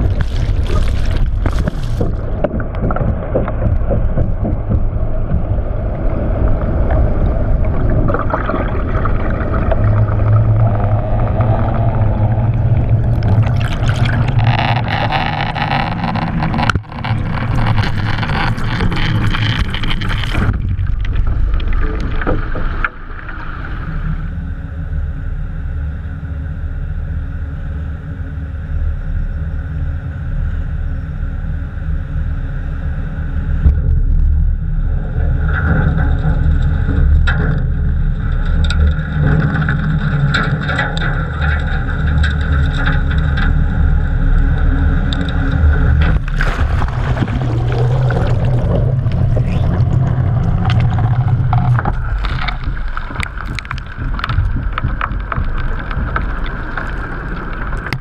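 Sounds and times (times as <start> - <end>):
regulator bubbles hissing: 0.0 - 25.2, 33.1 - 58.0
faint hum: 0.0 - 58.0
low underwater rumble: 0.0 - 58.0.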